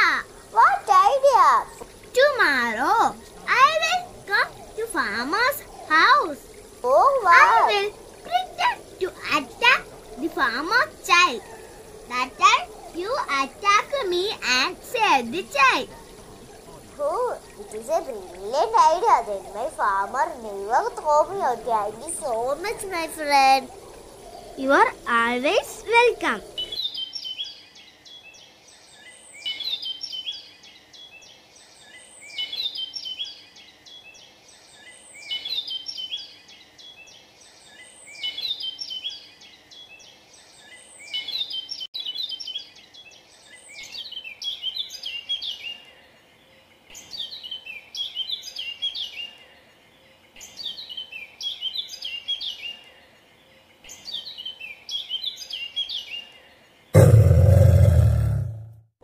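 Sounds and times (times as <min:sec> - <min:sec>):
faint steady hiss: 0:00.0 - 0:58.6
songbird chirping: 0:00.0 - 0:58.8.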